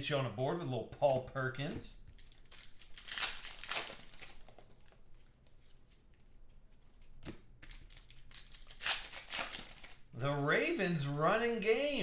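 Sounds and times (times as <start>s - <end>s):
cards rustling: 0.4s - 10.1s.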